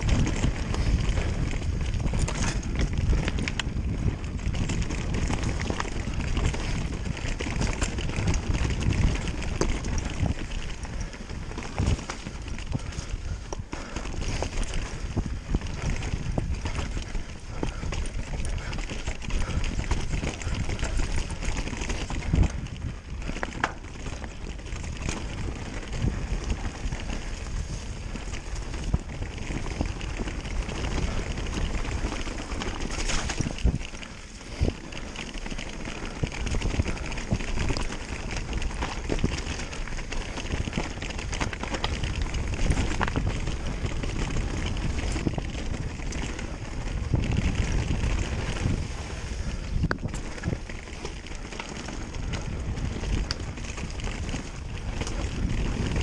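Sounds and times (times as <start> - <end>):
bike knocks and rattles: 0.0 - 56.0
tyres rolling over rock and leaves: 0.0 - 56.0
wind on microphone: 0.0 - 56.0.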